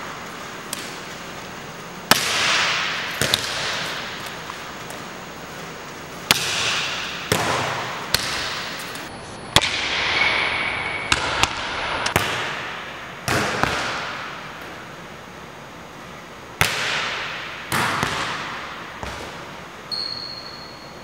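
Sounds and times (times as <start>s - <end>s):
volleyball hits echoing: 0.0s - 14.8s, 16.6s - 19.6s.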